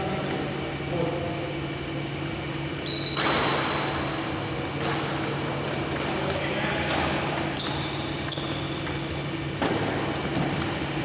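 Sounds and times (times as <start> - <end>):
electric fan humming: 0.0 - 11.0.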